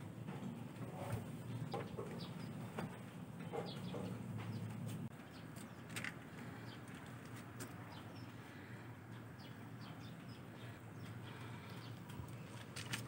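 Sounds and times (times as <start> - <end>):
small birds chirping: 1.2 - 13.0.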